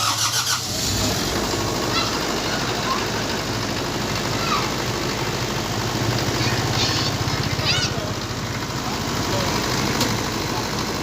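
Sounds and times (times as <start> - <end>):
generator engine droning: 0.0 - 11.0.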